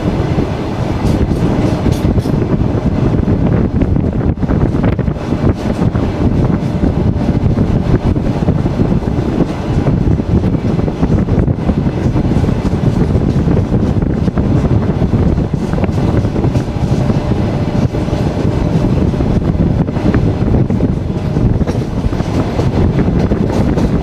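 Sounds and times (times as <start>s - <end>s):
train running low rumble: 0.0s - 24.0s.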